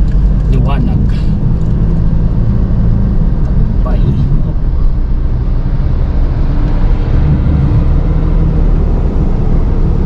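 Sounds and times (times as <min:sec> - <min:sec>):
engine and tyre rumble in car: 0:00.0 - 0:10.0.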